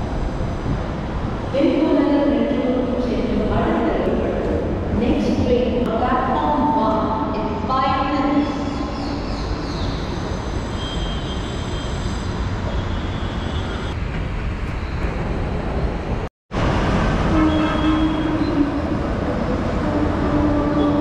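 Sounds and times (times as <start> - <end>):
metro station rumbling ambience: 0.0 - 21.0.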